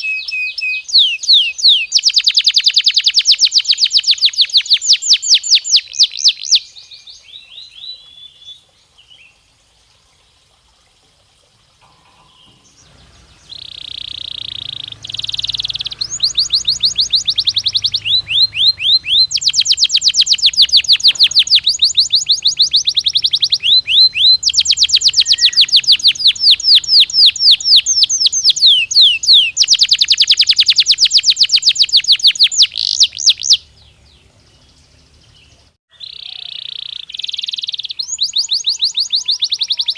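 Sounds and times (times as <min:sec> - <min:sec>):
canary singing: 0:00.0 - 0:09.4, 0:11.8 - 0:39.9.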